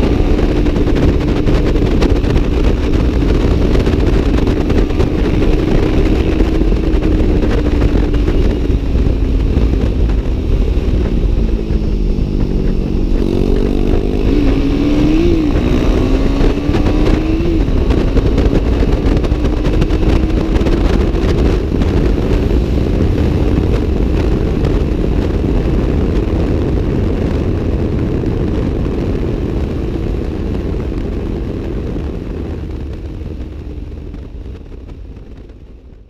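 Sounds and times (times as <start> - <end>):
motorcycle engine accelerating: 0.0 - 36.0
wind rumble on microphone: 0.0 - 36.0.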